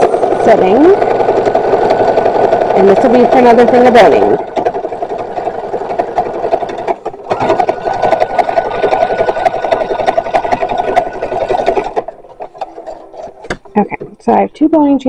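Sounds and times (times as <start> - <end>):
electric sewing machine stitching: 0.0 - 13.8.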